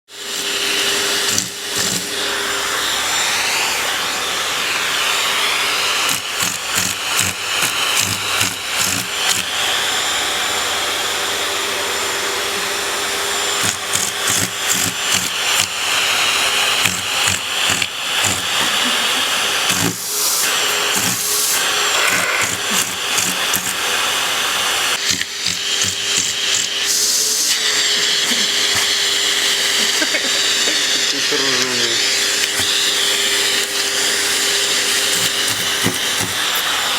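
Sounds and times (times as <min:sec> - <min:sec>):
vacuum cleaner whine: 0:00.1 - 0:36.9.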